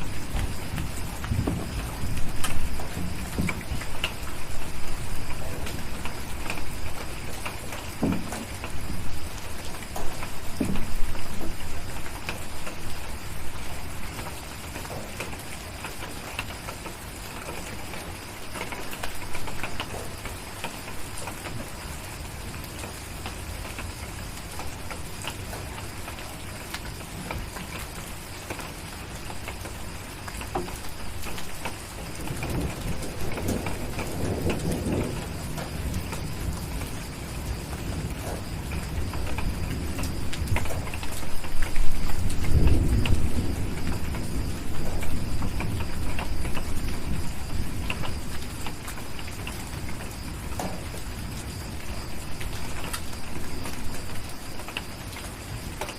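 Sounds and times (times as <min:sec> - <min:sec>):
distant thunder rumbling: 0:00.0 - 0:27.7, 0:28.5 - 0:55.9
steady rain: 0:00.0 - 0:55.9.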